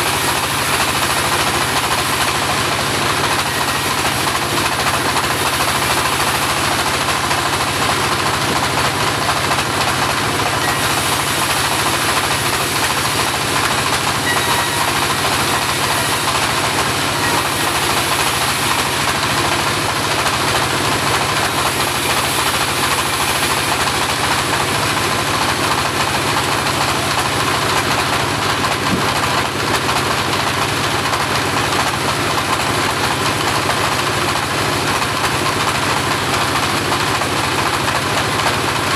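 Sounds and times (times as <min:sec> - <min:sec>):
bandsaw sawmill running: 0:00.0 - 0:38.9.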